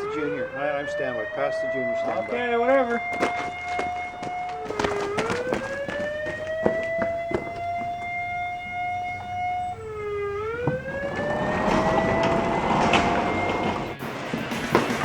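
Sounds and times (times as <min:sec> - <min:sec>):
siren winding up: 0:00.0 - 0:14.0
knocks: 0:03.0 - 0:15.0.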